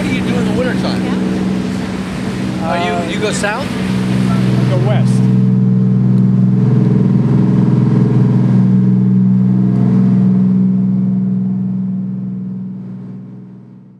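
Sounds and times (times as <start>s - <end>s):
boat engines droning: 0.0s - 13.9s.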